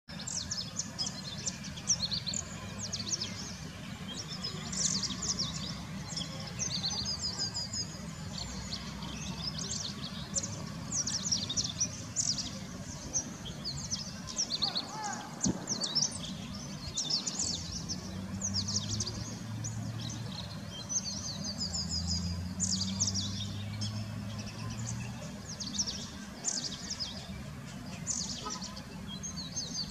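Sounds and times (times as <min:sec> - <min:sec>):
small birds chirping: 0:00.1 - 0:29.9.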